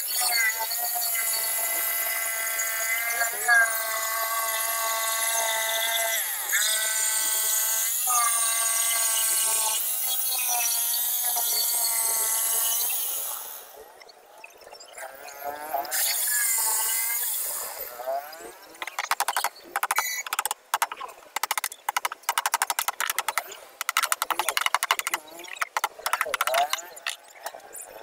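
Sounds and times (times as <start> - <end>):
electric jigsaw cutting: 0.0 - 13.8, 15.4 - 27.2.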